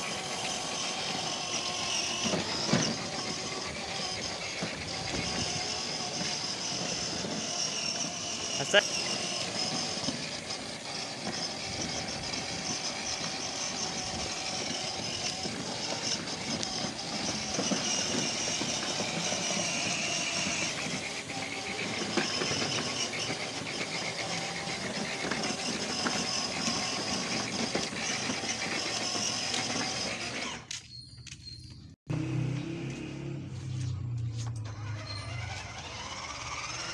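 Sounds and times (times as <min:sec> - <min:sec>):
plastic wheels grinding on concrete: 0:00.0 - 0:31.6, 0:34.5 - 0:36.9
electric motors whining: 0:00.0 - 0:36.9.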